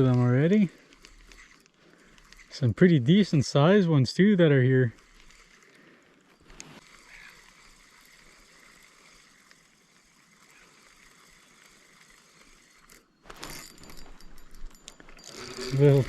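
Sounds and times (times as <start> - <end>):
fishing reel clicking rapidly: 0.0 - 16.0.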